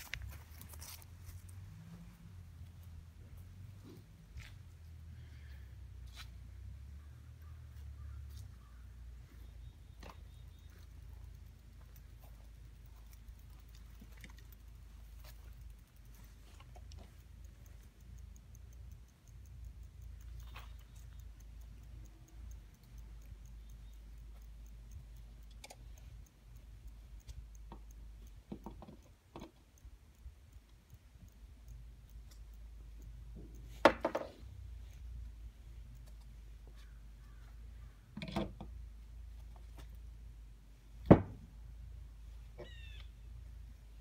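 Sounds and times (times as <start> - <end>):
faint clicks and knocks: 0.0 - 44.0.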